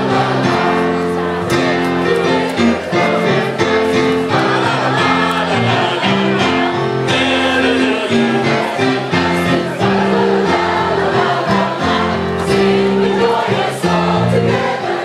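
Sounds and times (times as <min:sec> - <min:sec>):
carolers singing in chorus: 0:00.0 - 0:15.0
instrumental backing music: 0:00.0 - 0:15.0.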